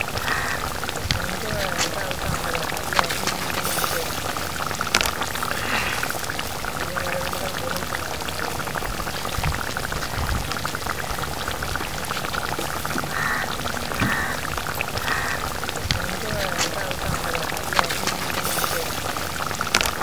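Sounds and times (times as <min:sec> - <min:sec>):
curry bubbling and popping: 0:00.0 - 0:20.0.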